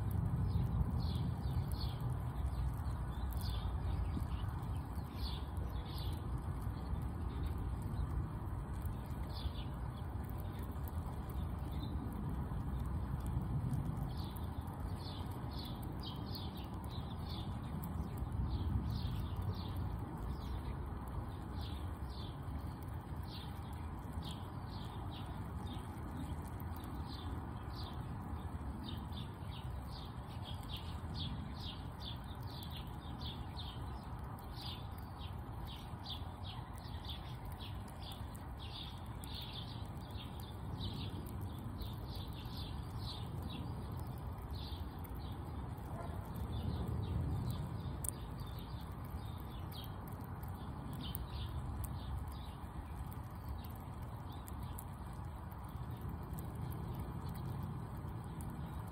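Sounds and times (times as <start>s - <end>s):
low background rumble: 0.0s - 58.9s
small birds chirping: 0.0s - 58.9s.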